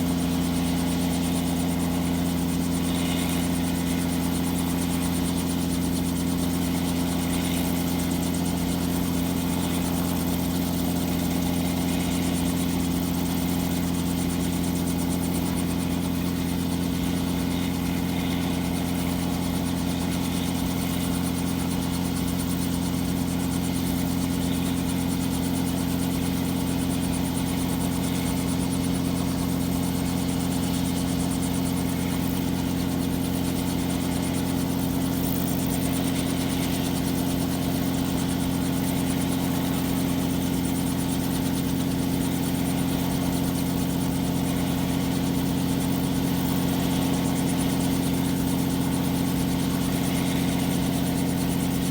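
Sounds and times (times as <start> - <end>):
helicopter engine drone: 0.0 - 51.9.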